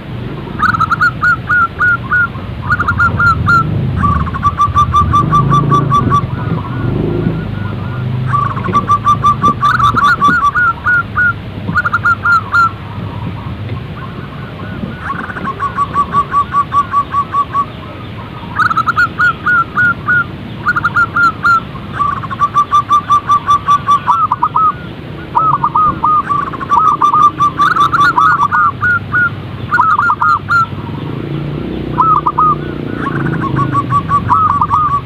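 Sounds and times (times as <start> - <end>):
dove cooing: 0.5 - 35.0.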